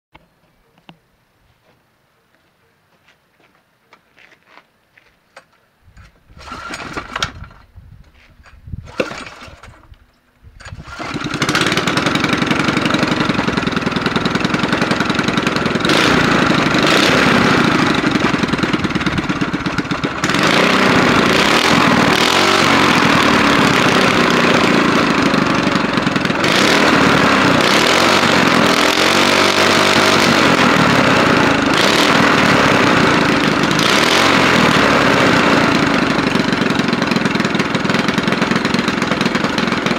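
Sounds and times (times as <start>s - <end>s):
small engine starting and running: 6.3s - 7.8s, 8.4s - 39.9s.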